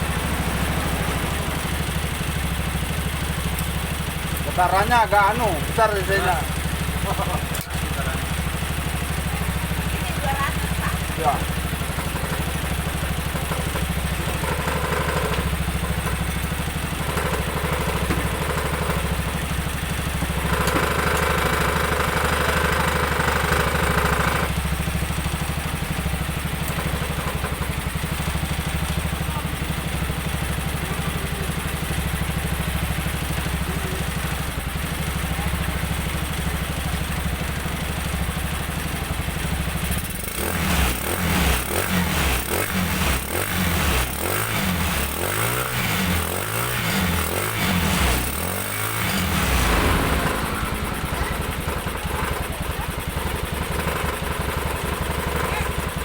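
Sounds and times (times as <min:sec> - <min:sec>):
engine revving unevenly: 0:00.0 - 0:56.0
motorcycle engine idling: 0:00.0 - 0:56.0.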